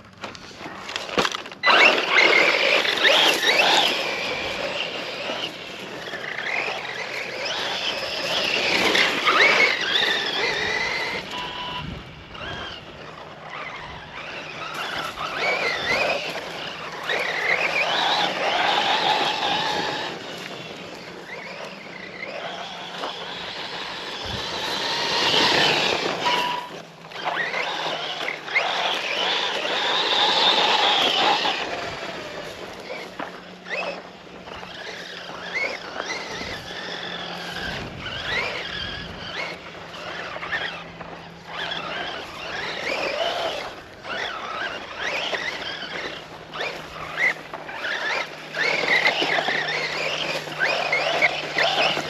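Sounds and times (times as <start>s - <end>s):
electric motor whining: 0.0s - 52.0s
tyre and ground noise: 0.0s - 52.0s.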